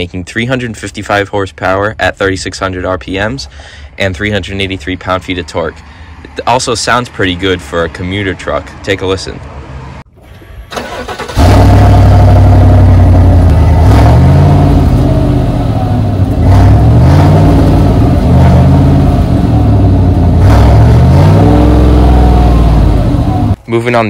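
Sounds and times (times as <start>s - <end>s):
truck engine idling and revving: 0.0s - 23.6s.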